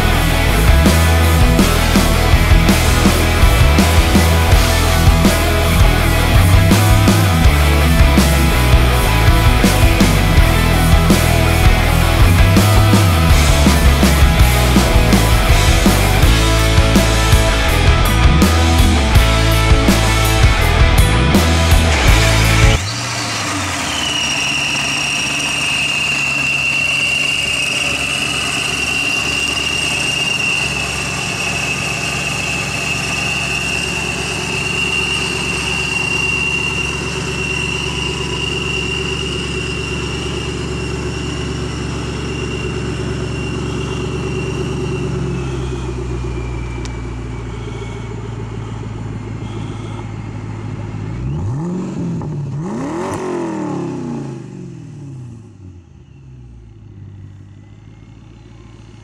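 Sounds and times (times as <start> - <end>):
car engine idling with whine: 0.0 - 59.0
engine revving blips: 0.0 - 59.0.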